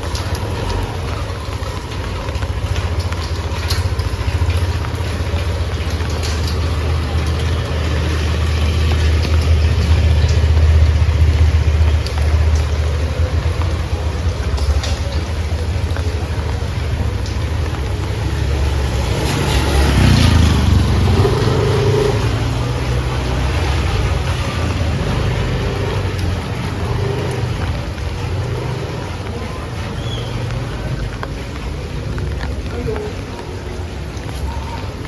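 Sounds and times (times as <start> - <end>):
low engine rumble: 0.0 - 35.0
rain falling: 0.0 - 35.0.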